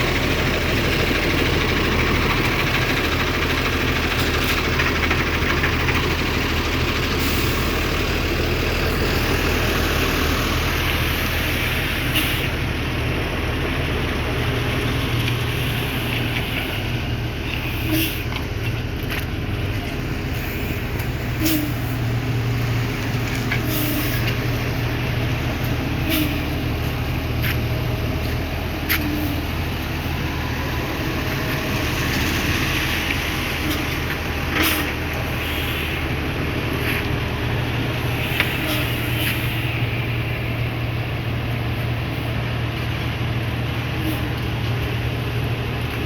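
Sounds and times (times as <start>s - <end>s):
heavy truck engine running: 0.0s - 46.0s.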